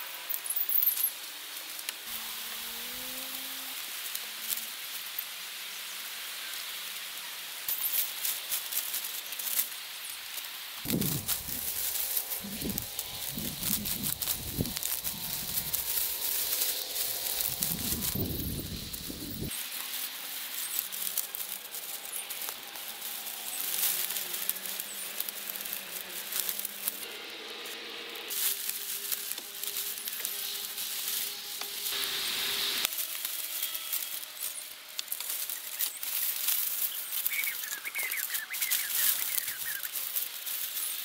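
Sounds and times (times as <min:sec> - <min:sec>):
dry reeds rustling and crackling: 0:00.1 - 0:41.0.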